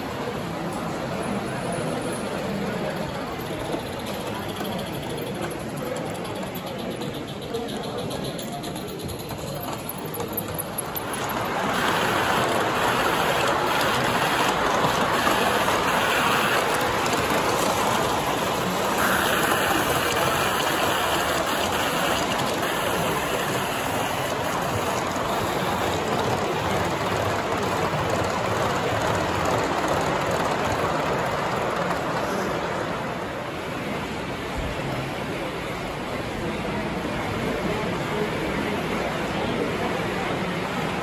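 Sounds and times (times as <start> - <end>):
model train wheels rolling on track: 0.0 - 41.0.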